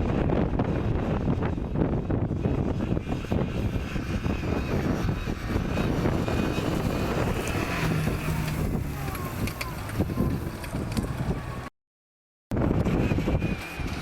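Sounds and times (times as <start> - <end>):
vehicle engine running hard: 0.0 - 11.7, 12.6 - 14.0.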